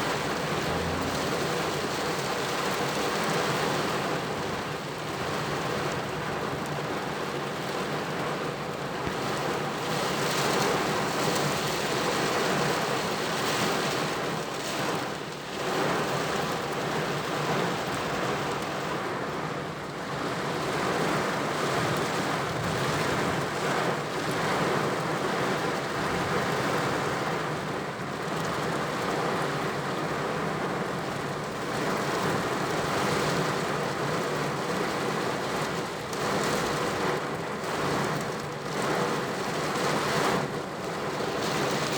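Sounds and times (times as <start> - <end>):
heavy rain on car: 0.0 - 41.9.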